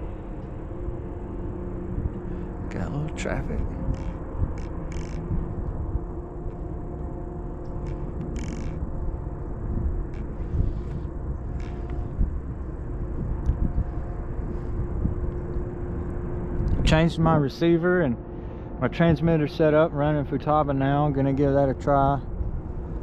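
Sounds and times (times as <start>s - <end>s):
faint steady hum: 0.0s - 23.0s
vehicle engine rumble: 0.0s - 23.0s.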